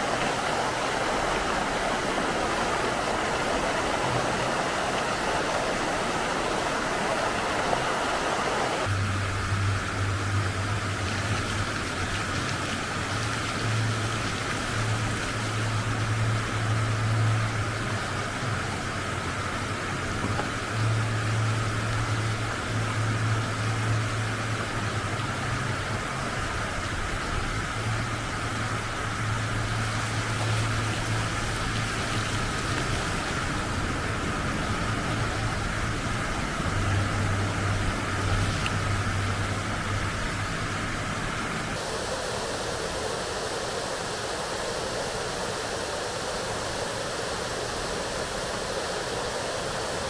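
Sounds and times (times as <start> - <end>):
low hum: 0.0 - 41.8
fountain water splashing: 0.0 - 50.0.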